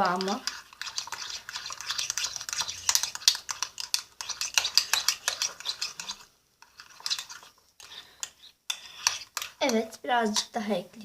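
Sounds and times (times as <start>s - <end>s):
spoon scraping bowl stirring slime: 0.0s - 10.6s.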